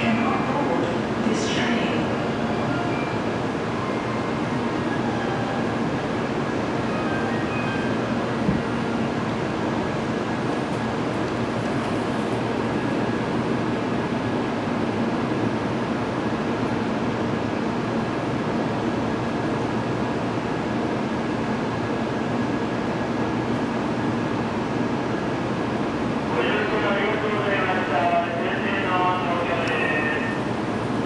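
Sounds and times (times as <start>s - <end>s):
train equipment humming: 0.0s - 31.0s.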